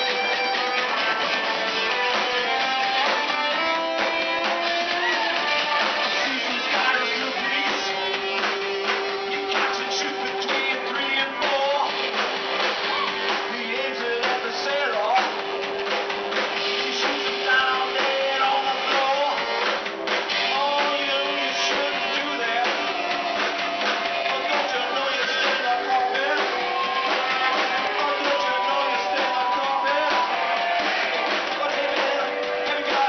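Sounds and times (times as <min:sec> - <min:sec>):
drum kit: 0:00.0 - 0:33.0
electric guitars: 0:00.0 - 0:33.0
live band playing: 0:00.0 - 0:33.0.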